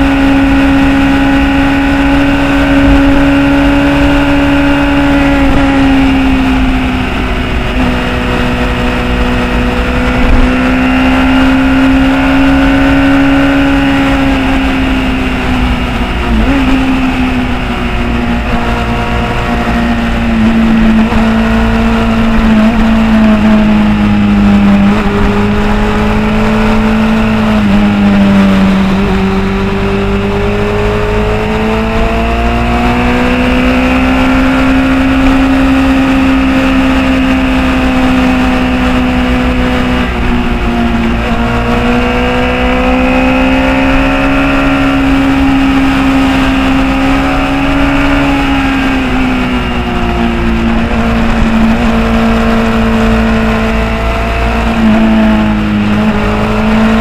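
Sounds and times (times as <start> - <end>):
motorcycle engine revving: 0.0 - 57.0
wind and road rush: 0.0 - 57.0.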